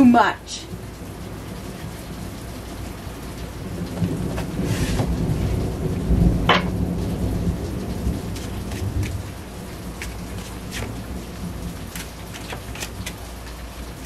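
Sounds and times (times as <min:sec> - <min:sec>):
steady rain: 0:00.0 - 0:14.0
thunder rumbling: 0:00.7 - 0:12.4.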